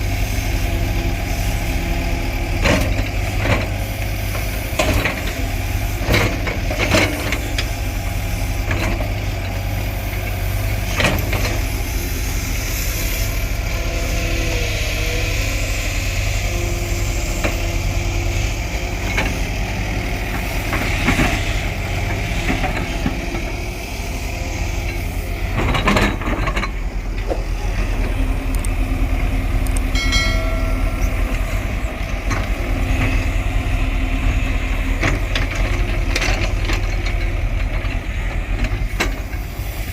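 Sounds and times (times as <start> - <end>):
diesel machine engine rumbling: 0.0 - 39.9.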